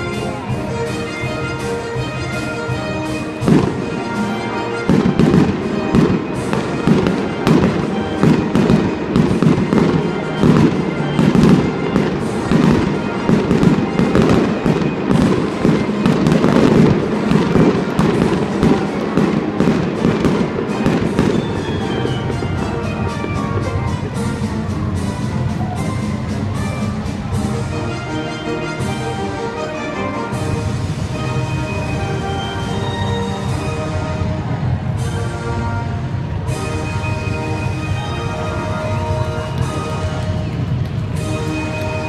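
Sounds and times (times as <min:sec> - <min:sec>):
fireworks bursting: 0:00.0 - 0:29.4, 0:30.2 - 0:42.0
music: 0:00.0 - 0:42.0.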